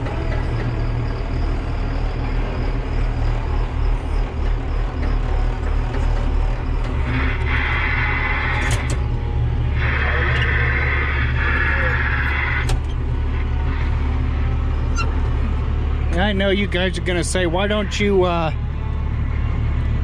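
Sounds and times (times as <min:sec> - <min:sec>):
farm vehicle engine droning: 0:00.0 - 0:20.0.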